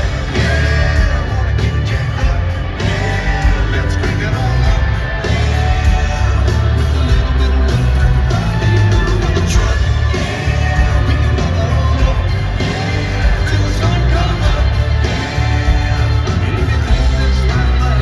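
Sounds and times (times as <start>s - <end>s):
live country-rock band: 0.0s - 18.0s.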